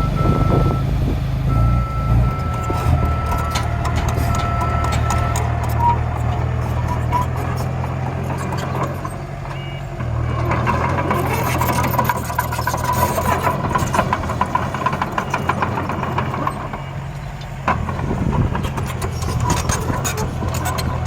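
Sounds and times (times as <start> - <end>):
small truck engines running: 0.0 - 21.0
soil and stones rattling: 2.4 - 9.4, 10.4 - 21.0.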